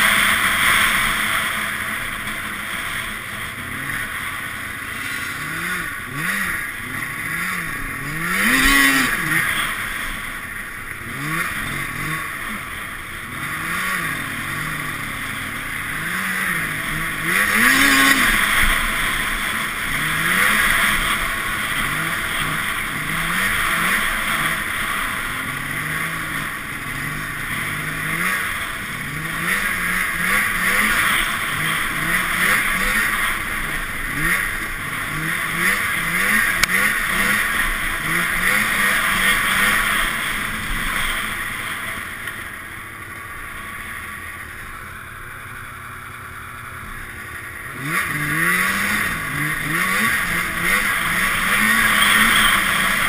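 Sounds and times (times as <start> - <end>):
snowmobile engine revving: 0.0 - 53.0
steady rushing noise: 0.0 - 53.0.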